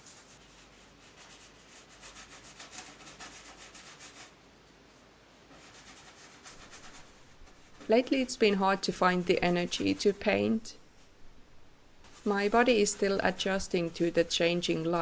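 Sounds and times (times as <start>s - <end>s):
art tool scrubbing on paper: 0.0s - 4.4s, 5.5s - 11.2s, 12.0s - 15.0s.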